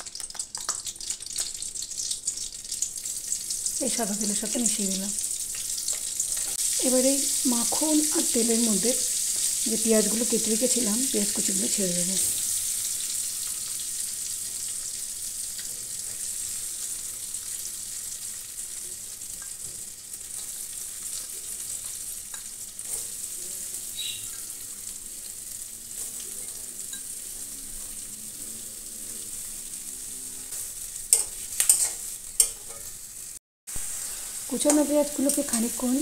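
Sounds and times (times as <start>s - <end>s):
onions sizzling in oil: 0.0s - 36.0s.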